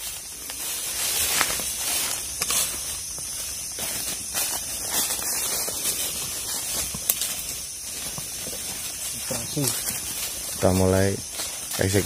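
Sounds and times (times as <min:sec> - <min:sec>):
footsteps crunching on dry leaves: 0:00.0 - 0:12.0
high-pitched jungle ambience hiss: 0:00.0 - 0:12.0.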